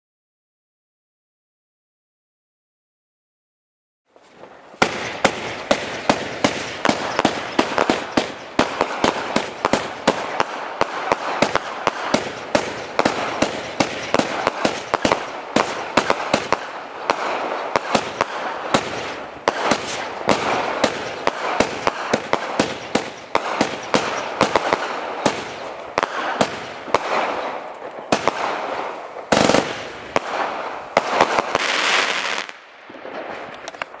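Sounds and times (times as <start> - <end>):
firework battery bangs: 4.8 - 32.6.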